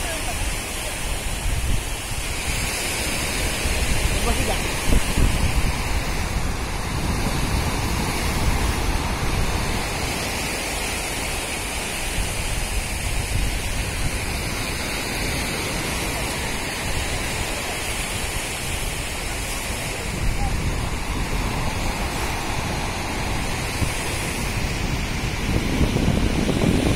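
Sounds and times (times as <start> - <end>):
surf rushing on beach: 0.0 - 26.9
wind buffeting microphone: 0.0 - 26.9.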